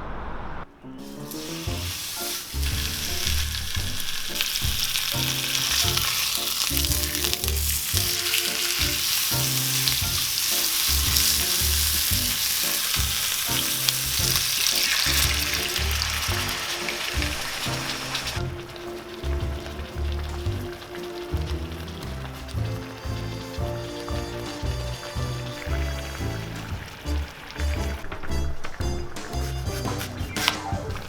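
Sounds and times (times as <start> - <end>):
background music: 0.8 - 31.0
meat sizzling in a pan: 1.0 - 28.5.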